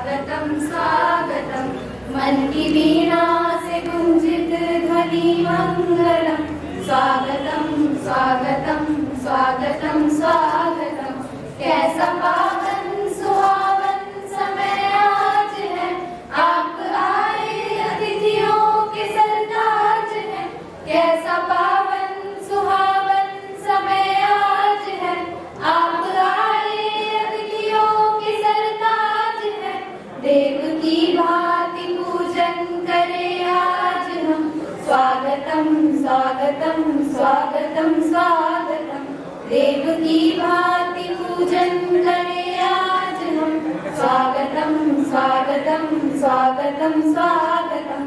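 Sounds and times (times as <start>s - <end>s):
girls singing together: 0.0s - 48.0s.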